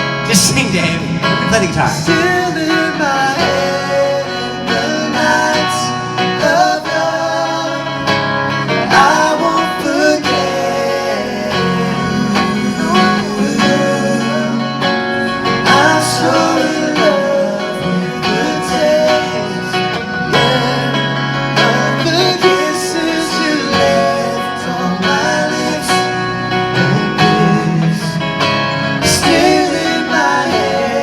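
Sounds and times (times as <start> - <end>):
strummed guitar: 0.0 - 31.0
person singing: 0.3 - 31.0.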